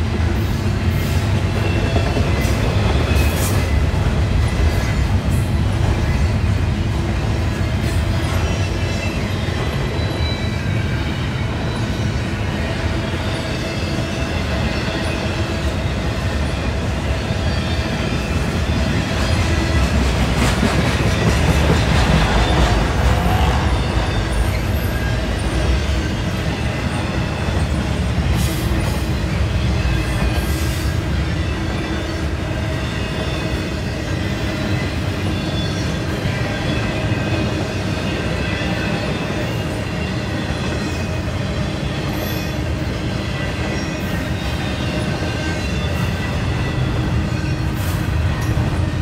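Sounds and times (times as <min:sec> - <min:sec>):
freight train cars rumbling: 0:00.0 - 0:49.0.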